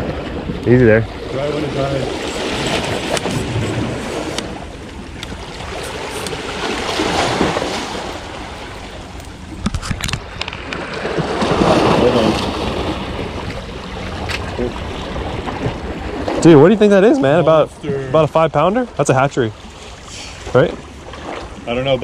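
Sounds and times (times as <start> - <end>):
waves lapping over rocks: 0.0 - 22.0.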